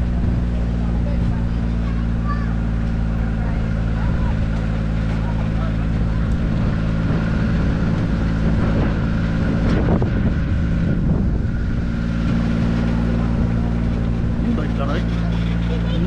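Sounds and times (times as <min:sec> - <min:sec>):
tour train engine droning: 0:00.0 - 0:16.0.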